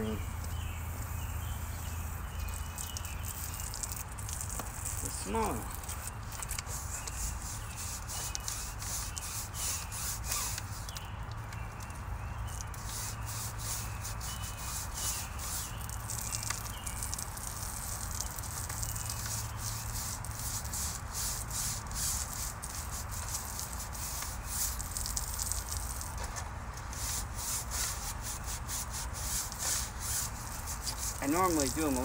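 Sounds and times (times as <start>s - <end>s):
brush scrubbing wet window: 1.8s - 32.0s.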